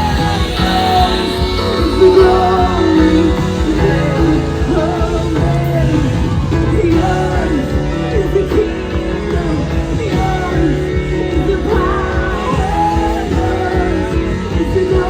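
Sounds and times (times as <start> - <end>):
rock worship song with singing: 0.0 - 15.0.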